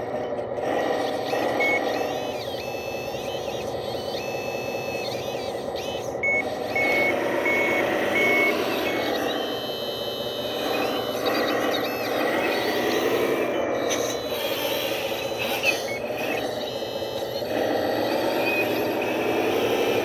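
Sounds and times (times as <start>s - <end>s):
reversing alarm beeping: 1.0s - 20.0s.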